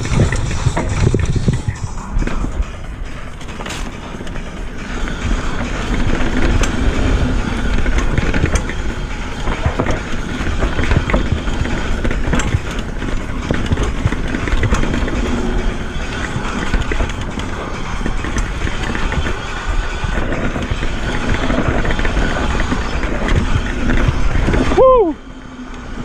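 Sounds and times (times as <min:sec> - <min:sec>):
bike chain clicking and rattling: 0:00.0 - 0:26.0
tyres rumbling on dirt: 0:00.0 - 0:26.0.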